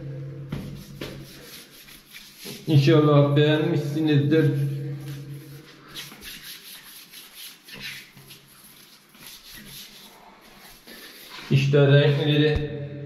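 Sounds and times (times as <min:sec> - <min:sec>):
hand wiping across wall tiles: 0:00.5 - 0:12.4.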